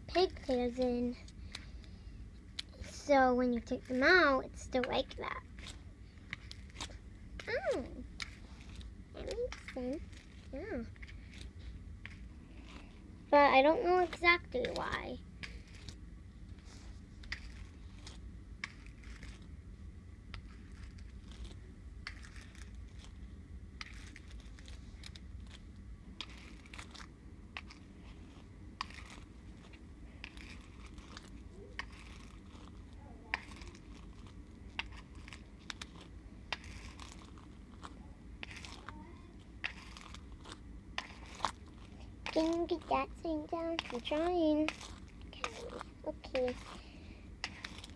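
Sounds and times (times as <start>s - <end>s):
low steady hum: 0.0s - 47.9s
hairbrush rustling through hair: 2.6s - 19.5s, 20.4s - 47.9s.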